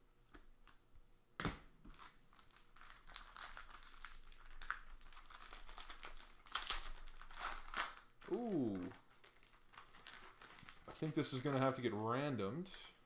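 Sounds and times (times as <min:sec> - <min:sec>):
foil wrapper crinkling: 0:01.9 - 0:13.0.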